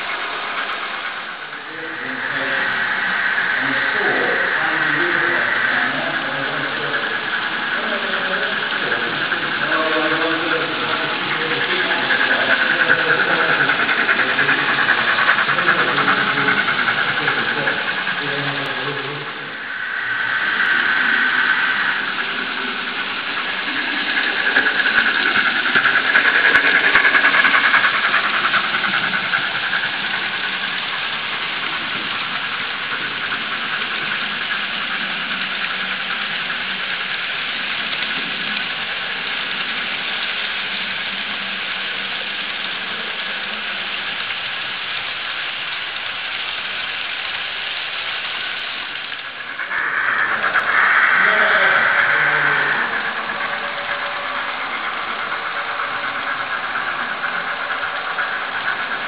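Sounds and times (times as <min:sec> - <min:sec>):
model train wheels rattling on rail: 0:00.0 - 0:59.0.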